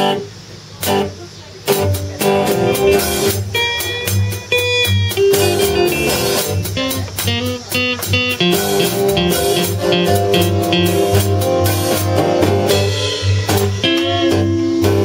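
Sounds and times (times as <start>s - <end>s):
blues band music: 0.0s - 15.0s.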